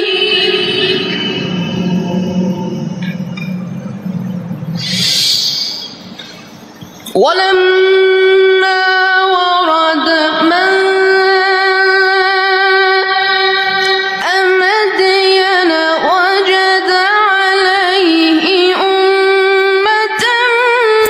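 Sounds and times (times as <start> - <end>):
person reciting melodically: 0.0 - 3.0, 7.1 - 21.0.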